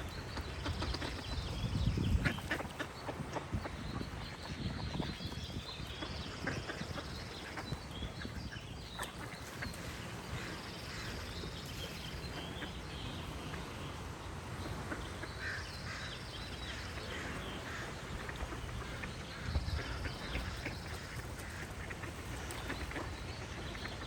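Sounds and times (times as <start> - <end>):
ducks quacking: 0.0 - 24.0
songbirds chirping and singing: 0.0 - 24.0
steady low background noise: 0.0 - 24.0.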